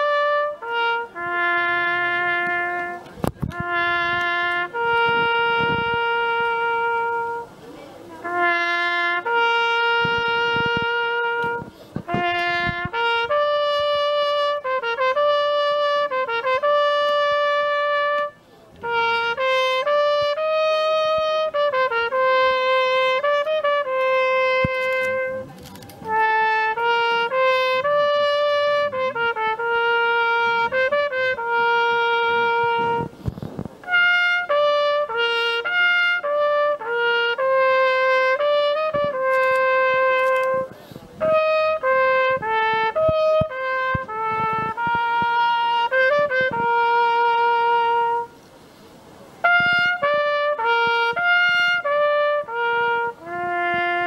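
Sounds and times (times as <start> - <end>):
trumpet playing slow melody: 0.0 - 54.0.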